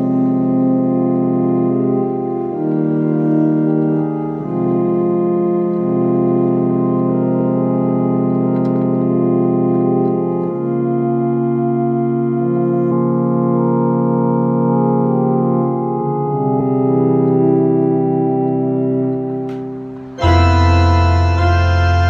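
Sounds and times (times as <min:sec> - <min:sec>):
organ playing sustained chords: 0:00.0 - 0:22.0.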